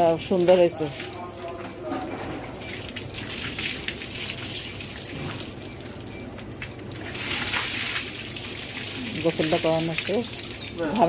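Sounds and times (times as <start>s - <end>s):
water splashing onto concrete: 0.0s - 11.0s.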